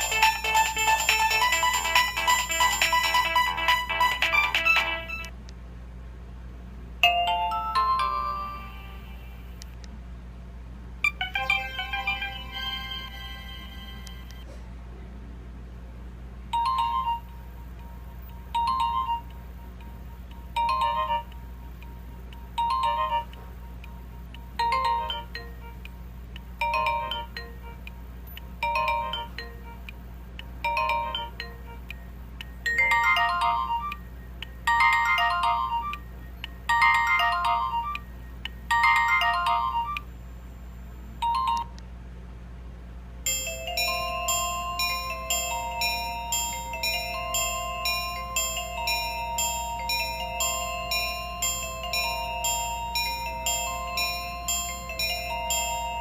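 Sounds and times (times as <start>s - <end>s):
different ringtone: 0.0s - 5.3s, 7.0s - 9.6s, 11.0s - 14.4s, 16.5s - 41.8s, 43.3s - 56.0s
phone ringtone melody: 0.0s - 5.3s, 7.0s - 9.6s, 11.0s - 14.3s, 16.5s - 40.5s, 41.1s - 41.8s, 43.3s - 56.0s
steady low hum: 0.0s - 56.0s.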